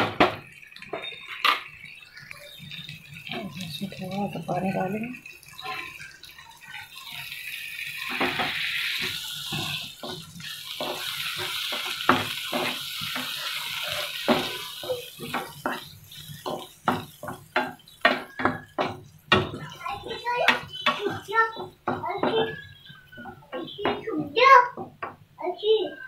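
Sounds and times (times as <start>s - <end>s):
masala sizzling in hot oil: 0.0s - 26.0s.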